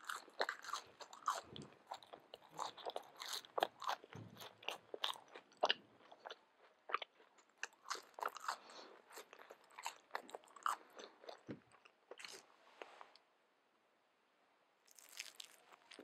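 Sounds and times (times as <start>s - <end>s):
chewing and crunching fries: 0.0s - 12.5s, 14.9s - 16.0s.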